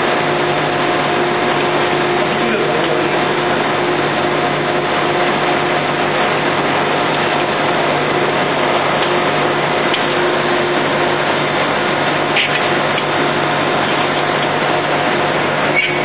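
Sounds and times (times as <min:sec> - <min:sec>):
factory machinery drone: 0:00.0 - 0:16.0.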